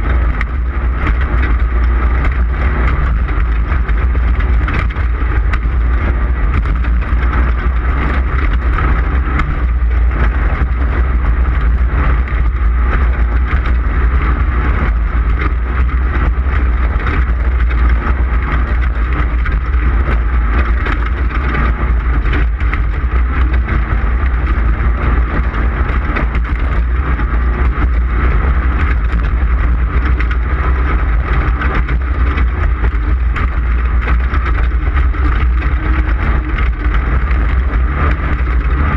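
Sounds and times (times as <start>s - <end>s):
race car engine drone: 0.0s - 38.9s
rattle from rough ground: 0.0s - 38.9s.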